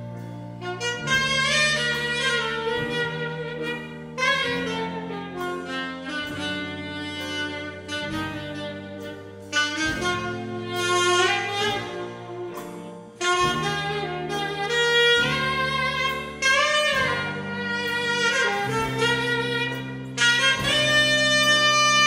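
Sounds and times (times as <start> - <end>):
big band jazz backing: 0.0 - 22.0
saxophone solo: 0.0 - 22.0.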